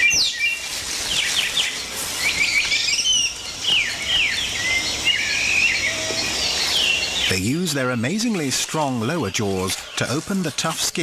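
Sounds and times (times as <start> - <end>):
birds chirping: 0.0 - 11.0
steady background hiss: 0.0 - 11.0.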